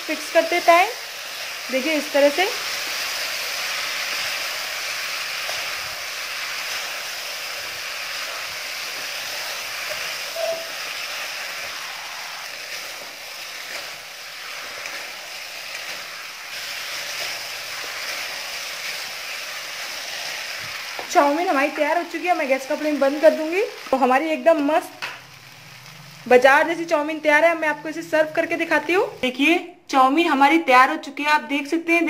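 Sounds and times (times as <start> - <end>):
noodles sizzling in oil: 0.0 - 29.6.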